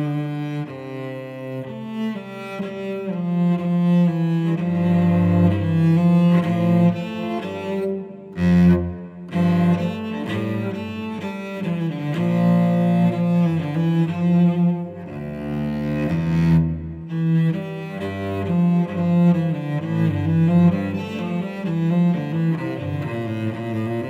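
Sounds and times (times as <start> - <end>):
bowed cello: 0.0 - 24.0.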